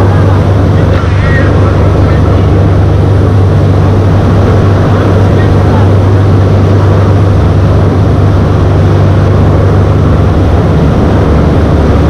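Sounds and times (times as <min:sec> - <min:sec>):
boat engines humming: 0:00.0 - 0:12.0
rush of wake and wind: 0:00.0 - 0:12.0.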